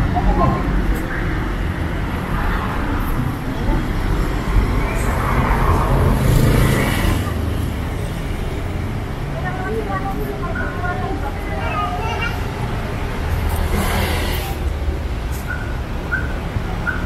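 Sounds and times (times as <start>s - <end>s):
vehicle passing: 0.0s - 16.8s
traffic on wet road: 0.0s - 17.0s.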